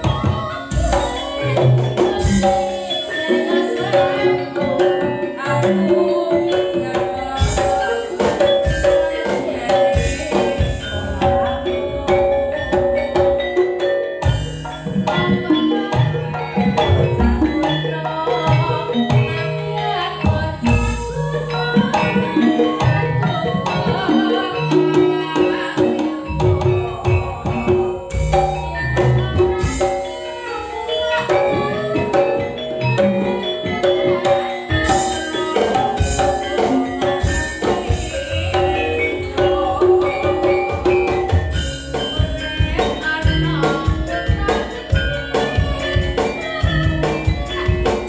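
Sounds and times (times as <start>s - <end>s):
metallophones ringing: 0.0s - 48.0s.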